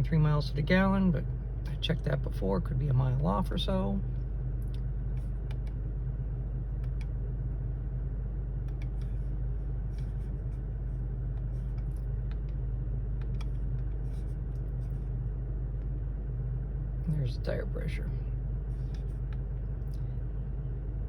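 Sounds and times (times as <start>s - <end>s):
truck engine drone in cab: 0.0s - 21.0s.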